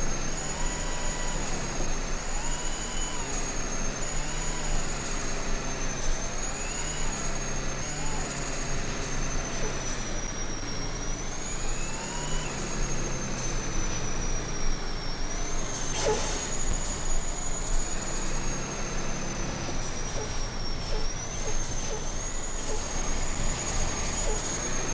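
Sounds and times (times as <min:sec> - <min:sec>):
truck engine drone: 0:00.0 - 0:24.9.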